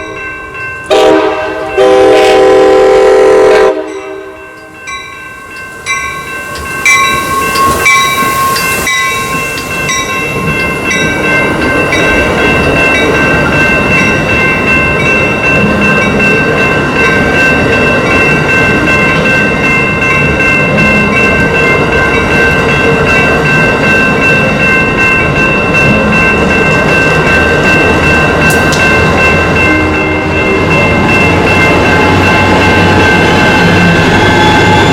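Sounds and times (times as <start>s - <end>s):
train rumbling past: 0.0s - 34.9s
high ringing tones: 3.7s - 34.9s.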